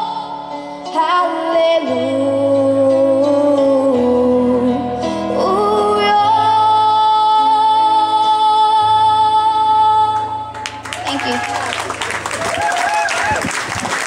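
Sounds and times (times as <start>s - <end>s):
young woman singing: 0.0s - 11.4s.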